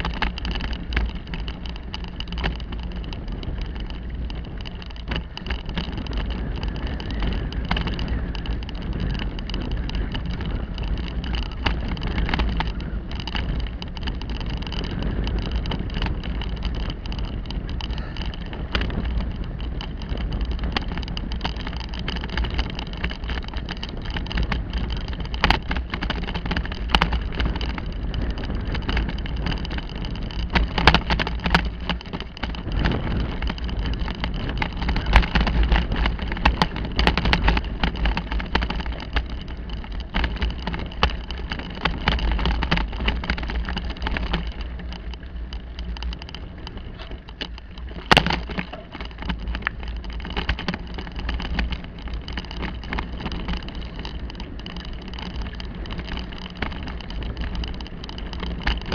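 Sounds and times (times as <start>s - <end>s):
bicycle rattles and knocks: 0.0s - 58.9s
bicycle tyre and frame noise: 0.0s - 58.9s
wind on microphone: 0.0s - 58.9s.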